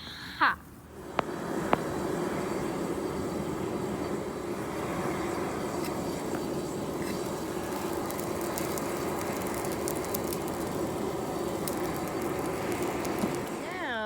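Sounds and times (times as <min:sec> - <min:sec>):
fire crackling faintly: 0:00.1 - 0:14.0
forge fire rushing: 0:00.7 - 0:14.0.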